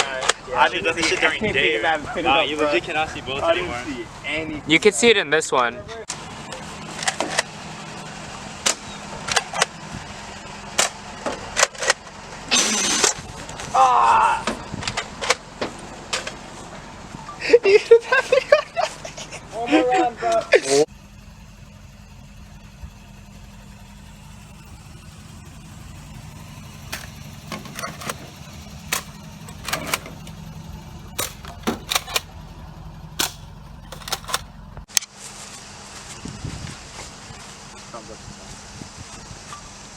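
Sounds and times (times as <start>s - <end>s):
car driving hum: 0.0s - 34.9s.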